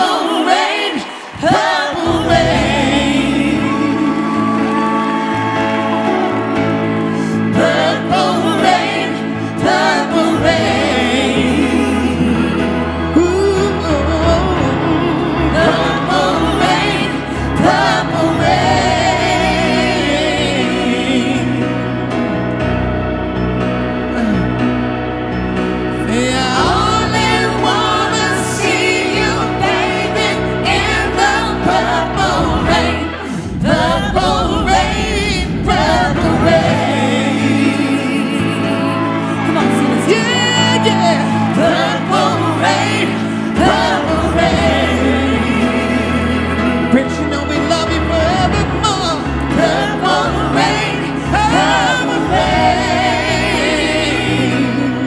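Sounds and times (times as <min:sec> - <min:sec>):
backing singers: 0:00.0 - 0:22.5, 0:25.7 - 0:55.0
band holding sustained chords: 0:00.0 - 0:55.0.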